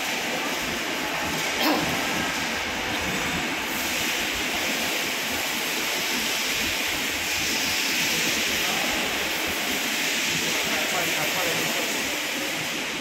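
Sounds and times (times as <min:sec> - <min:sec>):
factory machinery hiss: 0:00.0 - 0:13.0.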